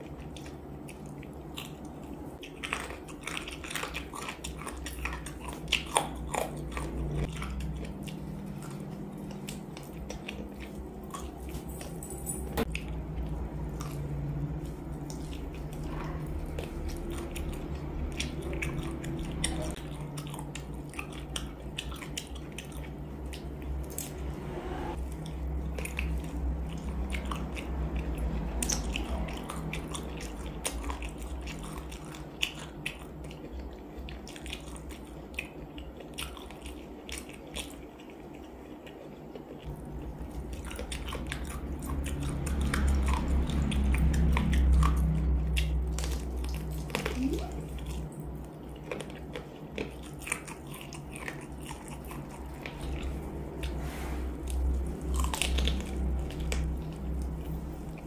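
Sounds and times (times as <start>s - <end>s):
biting and chewing crunches: 0.0s - 12.0s, 12.6s - 58.0s.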